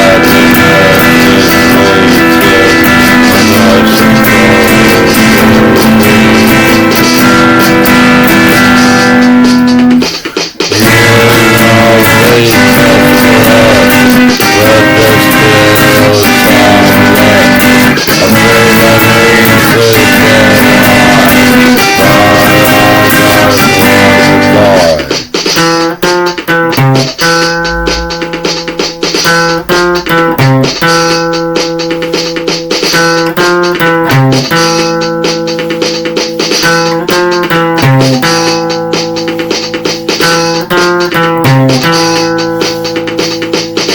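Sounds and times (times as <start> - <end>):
full band guitar instrumental: 0.0 - 43.9
picked guitar notes: 0.0 - 43.9.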